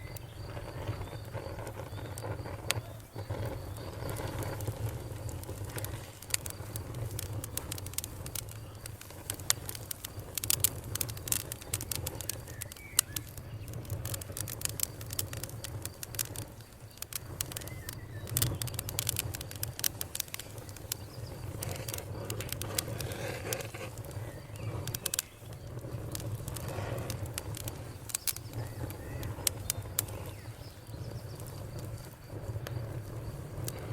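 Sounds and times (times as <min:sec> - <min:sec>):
fire rumbling: 0:00.0 - 0:33.9
wood crackling and popping: 0:00.0 - 0:33.9.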